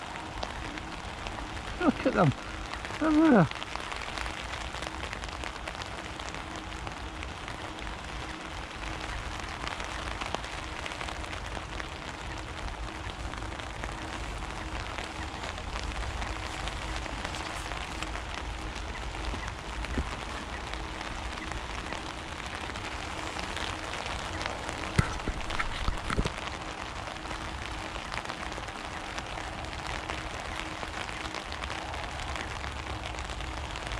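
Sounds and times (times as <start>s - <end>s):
faint steady hum: 0.0s - 33.9s
water pattering on lake surface: 0.0s - 33.9s.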